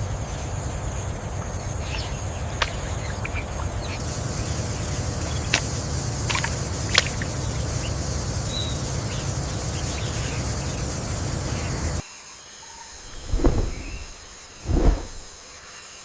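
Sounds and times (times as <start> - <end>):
rainforest rushing ambience: 0.0 - 15.4.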